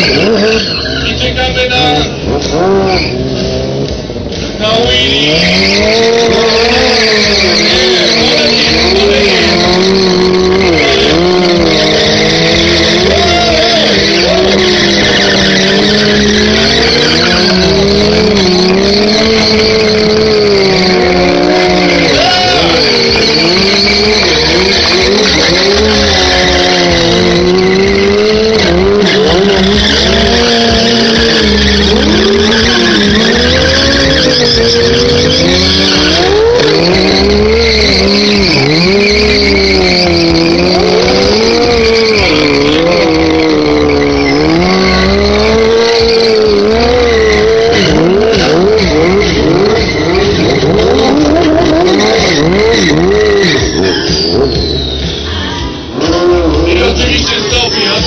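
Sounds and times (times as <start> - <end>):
tyres squealing on pavement: 0.0 - 3.5, 4.3 - 58.0
motorcycle engines revving: 0.0 - 58.0.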